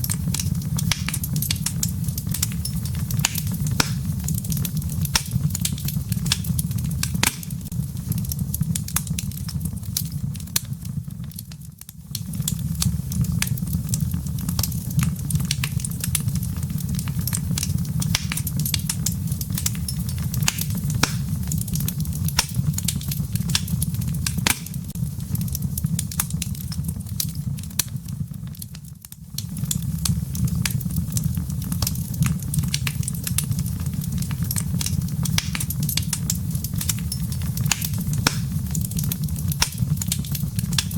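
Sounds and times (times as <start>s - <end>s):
crackling embers popping: 0.0s - 40.9s
low rumble of flame: 0.0s - 40.9s.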